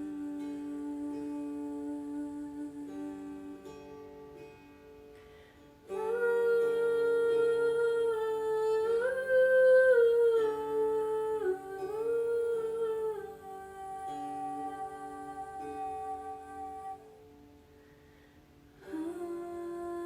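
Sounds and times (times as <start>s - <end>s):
person humming long notes: 0.0s - 3.9s, 5.9s - 17.1s, 18.8s - 20.0s
plucked strings: 0.0s - 20.0s.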